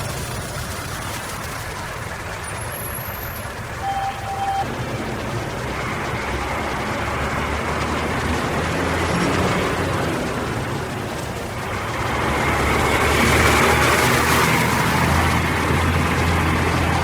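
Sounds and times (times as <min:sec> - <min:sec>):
bus engine humming: 0:00.0 - 0:17.0
road and traffic noise: 0:00.0 - 0:17.0.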